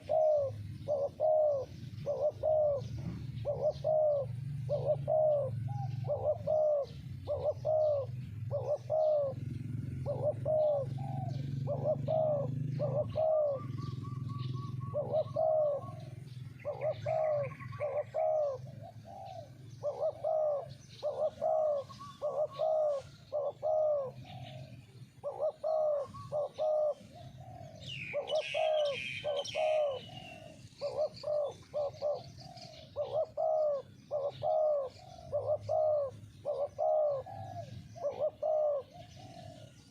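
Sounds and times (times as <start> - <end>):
doves cooing: 0.0 - 39.9
songbird chirping: 0.0 - 39.9.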